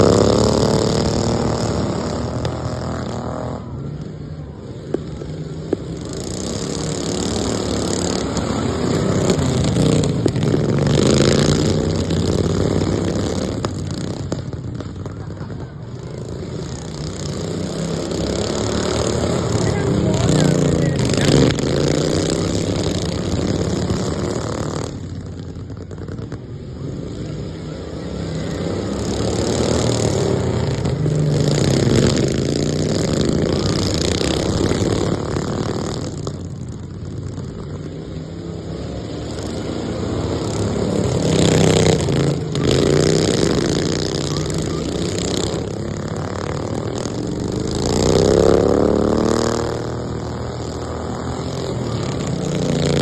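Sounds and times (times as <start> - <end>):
lawn mower engines revving: 0.0 - 53.0.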